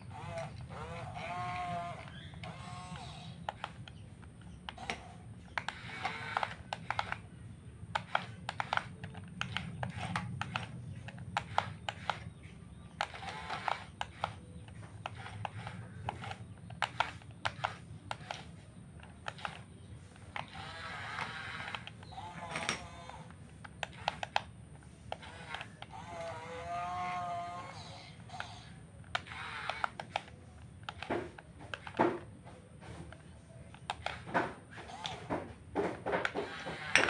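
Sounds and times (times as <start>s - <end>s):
motor and hydraulic hum: 0.0s - 37.0s.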